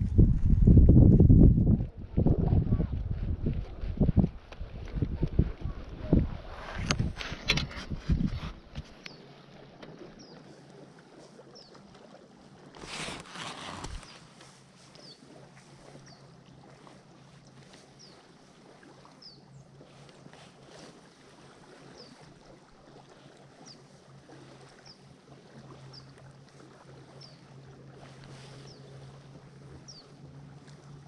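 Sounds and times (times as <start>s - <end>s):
light water noise: 0.0s - 31.0s.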